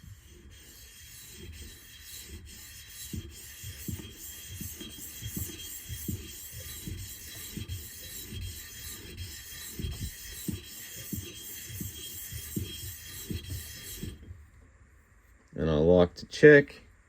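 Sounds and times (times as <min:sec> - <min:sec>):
chisel rubbing on sharpening stone: 0:00.0 - 0:14.3.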